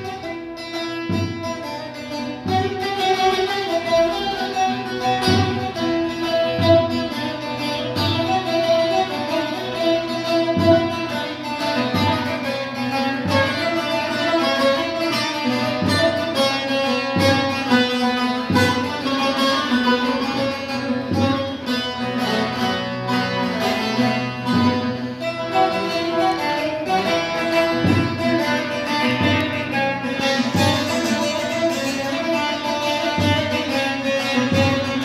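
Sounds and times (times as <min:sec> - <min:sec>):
saz folk melody: 0:00.0 - 0:35.0.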